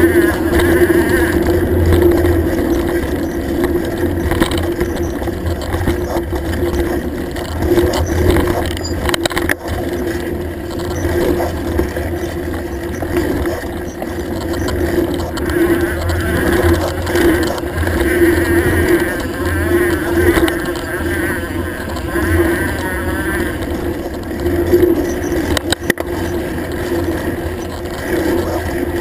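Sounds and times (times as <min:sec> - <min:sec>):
bike rumbling and rattling: 0:00.0 - 0:29.0.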